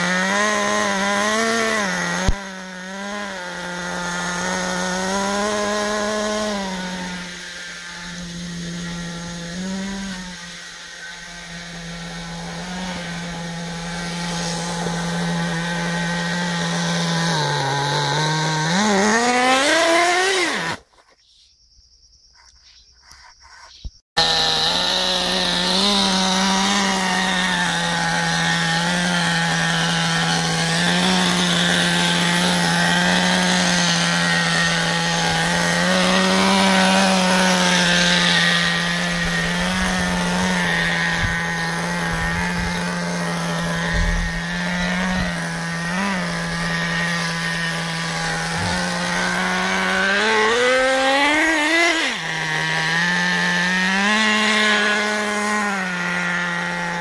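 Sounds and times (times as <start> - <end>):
small engine running and revving: 0.0 - 20.9, 23.0 - 57.0.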